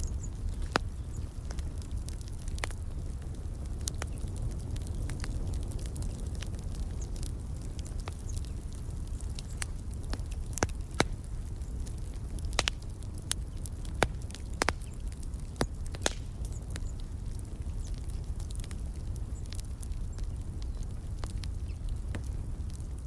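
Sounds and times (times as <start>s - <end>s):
fire popping and snapping: 0.0s - 23.0s
wood fire crackling: 0.0s - 23.0s.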